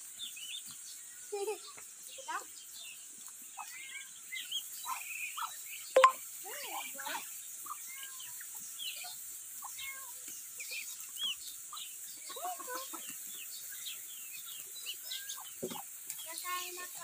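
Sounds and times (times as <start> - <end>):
ducks and poultry peeping: 0.0 - 17.0.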